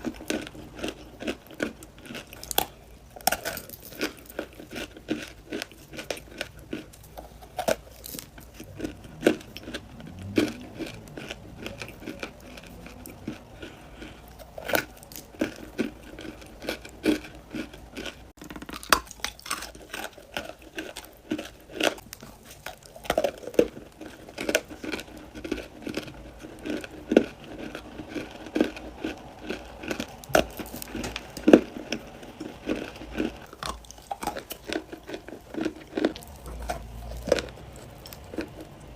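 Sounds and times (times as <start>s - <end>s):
crunching and chewing clay: 0.0s - 38.9s.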